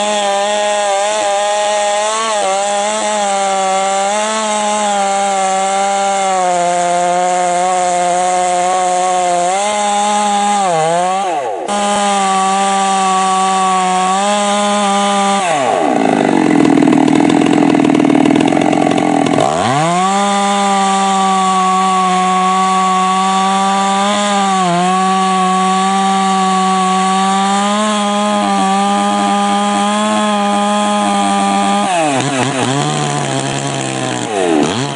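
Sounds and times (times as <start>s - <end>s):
chainsaw running at high revs: 0.0s - 34.9s.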